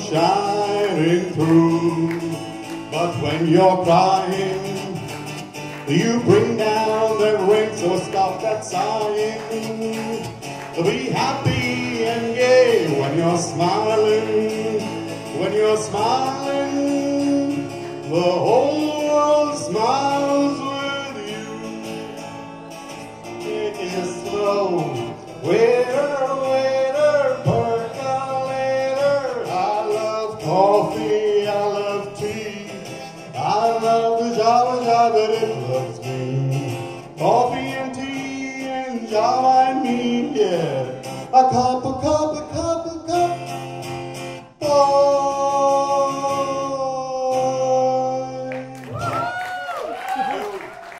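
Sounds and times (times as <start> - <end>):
man singing: 0.0 - 43.6, 44.4 - 49.3
acoustic guitar: 0.0 - 50.9.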